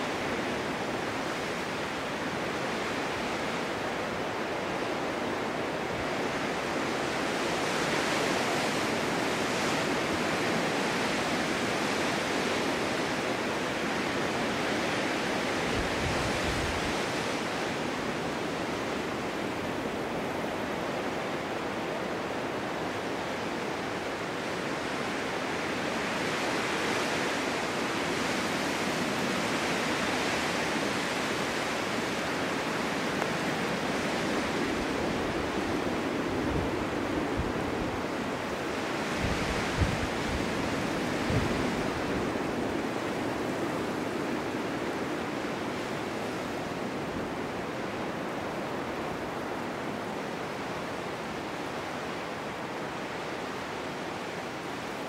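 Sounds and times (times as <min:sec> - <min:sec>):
snowstorm wind blowing: 0:00.0 - 0:55.0.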